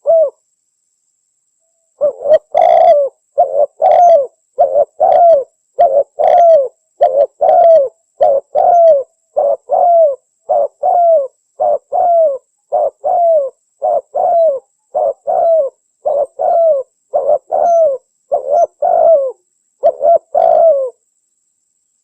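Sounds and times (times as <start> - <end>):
dove cooing: 0.0 - 0.4, 2.0 - 21.0.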